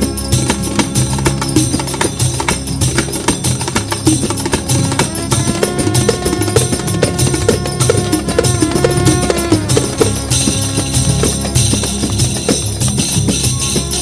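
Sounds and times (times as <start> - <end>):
dance music percussion beat: 0.0 - 14.0
held melody line: 0.0 - 14.0.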